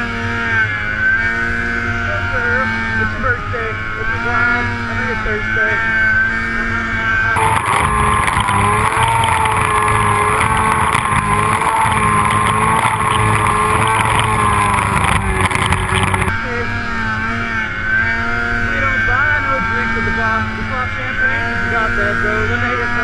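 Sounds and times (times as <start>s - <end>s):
snowmobile engine at high revs: 0.0s - 23.0s.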